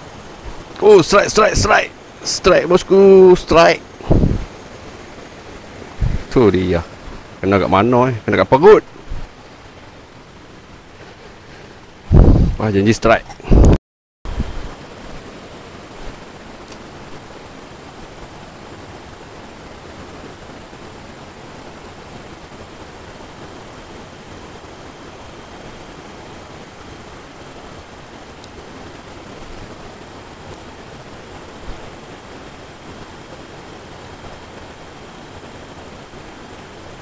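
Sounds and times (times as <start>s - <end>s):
stream water over rapids: 0.0s - 37.0s.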